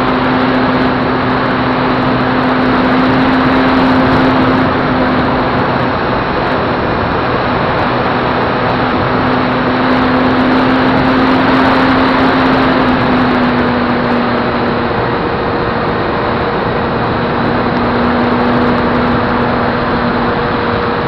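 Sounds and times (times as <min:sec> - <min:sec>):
electric motor and propeller hum: 0:00.0 - 0:21.0
wind rushing over camera: 0:00.0 - 0:21.0.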